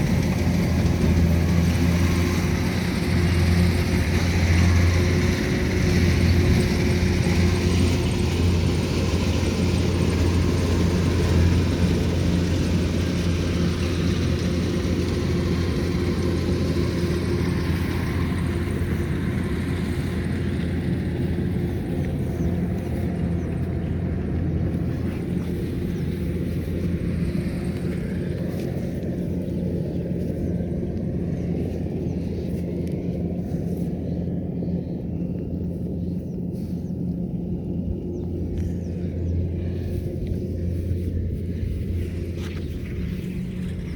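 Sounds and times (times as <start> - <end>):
harvester engine humming: 0.0 - 43.9.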